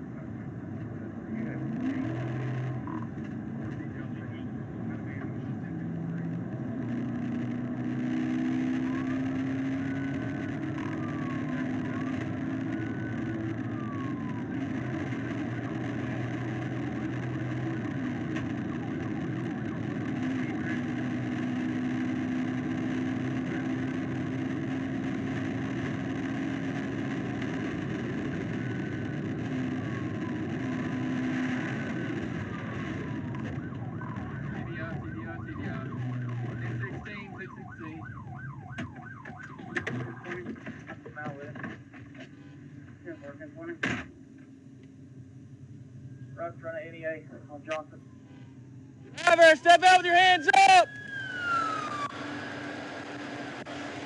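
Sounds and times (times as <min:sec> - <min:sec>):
car engine and road noise: 0:00.0 - 0:54.0
police siren wailing: 0:03.9 - 0:41.3, 0:47.8 - 0:54.0.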